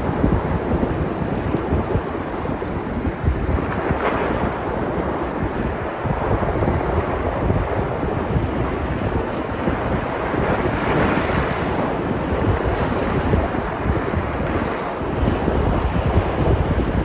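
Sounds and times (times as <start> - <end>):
surf washing onto shore: 0.0 - 17.0
wind buffeting microphone: 0.0 - 17.0.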